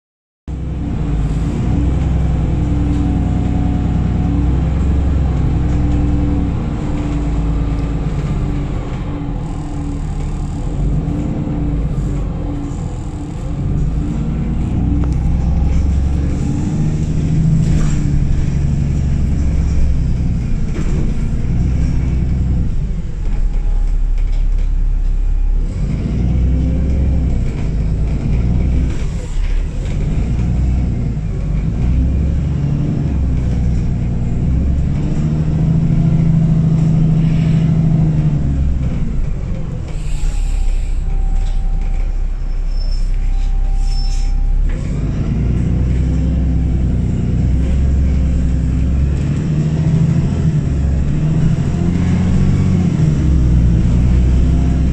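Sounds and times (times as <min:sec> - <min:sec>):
bus diesel engine rumble: 0:00.5 - 0:54.9.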